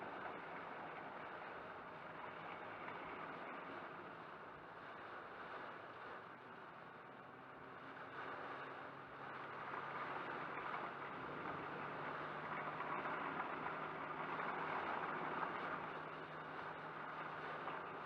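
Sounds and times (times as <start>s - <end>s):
car low hum: 0.0s - 18.0s
heavy rain on a car: 0.0s - 18.0s.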